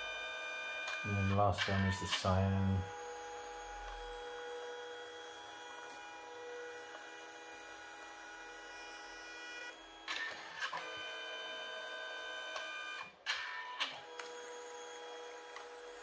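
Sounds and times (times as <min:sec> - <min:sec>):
printer motor whine: 0:00.0 - 0:16.0.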